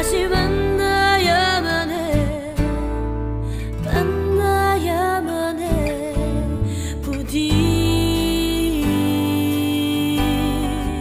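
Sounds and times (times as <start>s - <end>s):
woman singing ballad: 0.0s - 11.0s.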